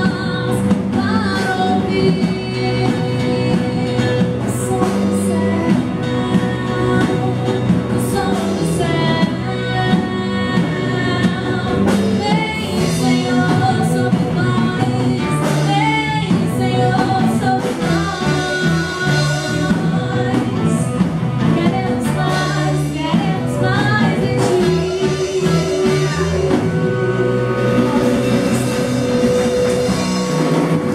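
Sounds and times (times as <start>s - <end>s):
band accompaniment: 0.0s - 30.9s.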